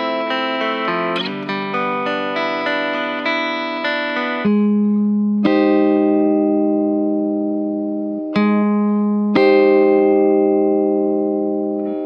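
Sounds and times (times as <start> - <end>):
clean electric guitar arpeggio: 0.0 - 12.0
strummed guitar chords: 0.0 - 12.0.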